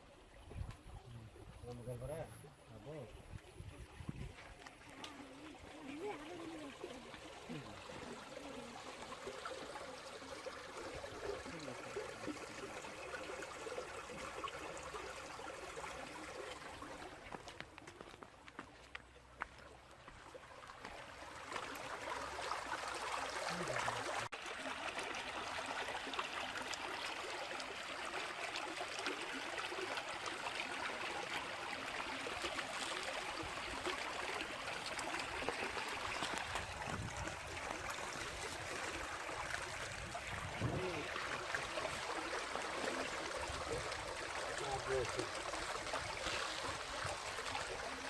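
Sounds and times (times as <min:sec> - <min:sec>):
flood water running: 0:00.0 - 0:48.0.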